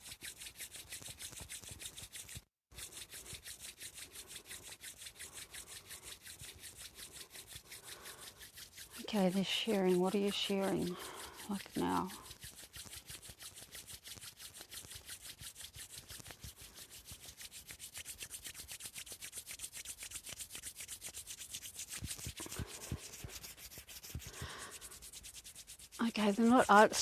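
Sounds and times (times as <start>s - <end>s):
fast rubbing strokes: 0.0s - 27.0s.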